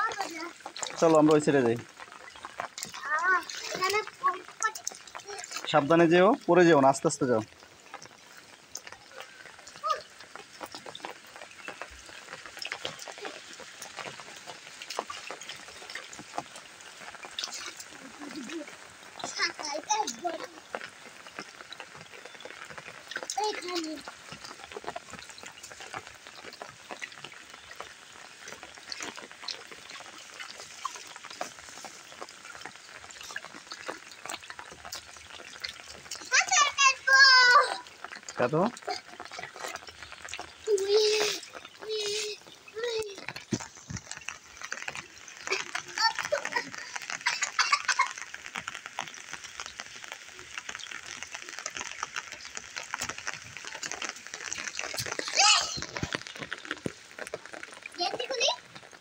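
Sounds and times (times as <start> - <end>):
heavy rain on standing water: 0.0 - 59.0.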